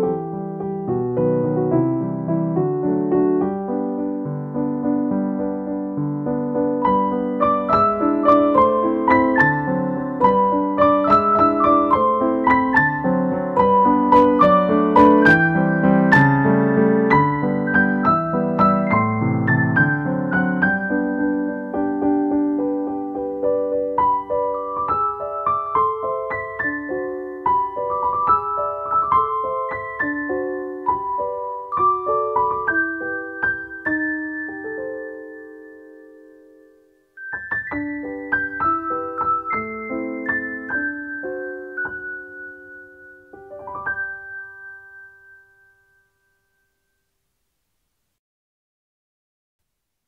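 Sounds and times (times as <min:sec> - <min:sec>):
piano music: 0:00.0 - 0:47.2.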